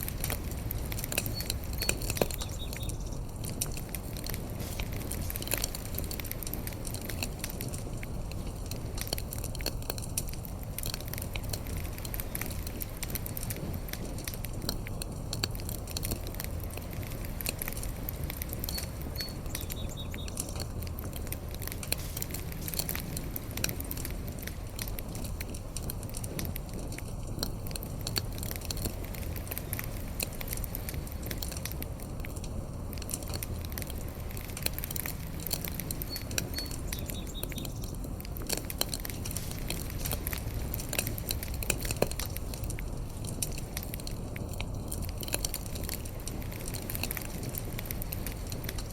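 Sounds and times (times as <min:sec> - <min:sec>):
fire crackling: 0:00.0 - 0:48.9.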